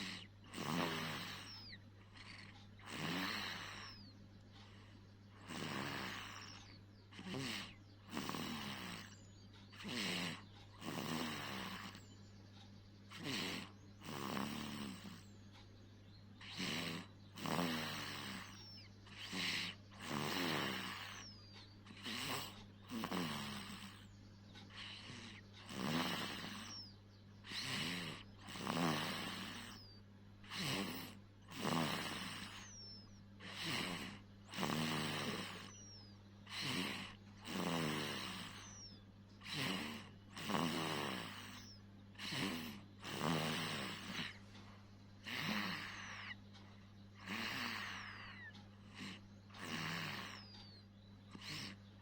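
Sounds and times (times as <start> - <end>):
rasping snores: 0.0 - 12.2, 13.1 - 15.4, 16.4 - 52.0
steady low hum: 0.0 - 52.0.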